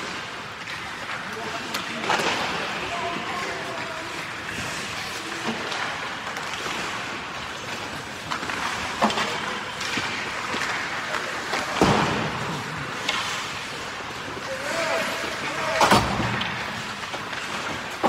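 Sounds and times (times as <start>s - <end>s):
skate blades scraping on ice: 0.0s - 18.0s
stick and puck clacks: 0.0s - 18.0s.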